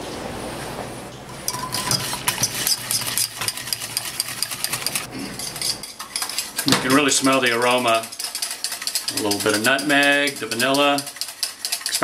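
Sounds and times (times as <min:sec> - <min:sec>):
whisk clicking against a pan: 0:01.5 - 0:12.0.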